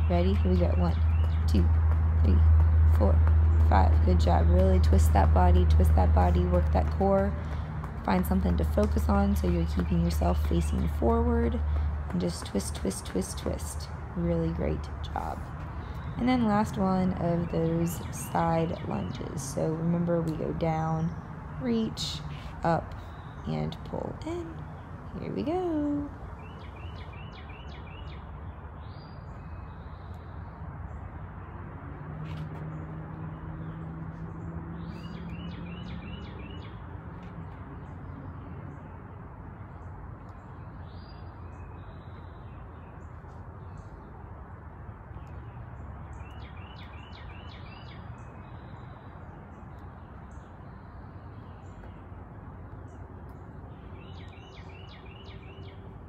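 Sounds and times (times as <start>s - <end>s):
songbirds singing: 0.0s - 31.7s, 32.6s - 56.0s.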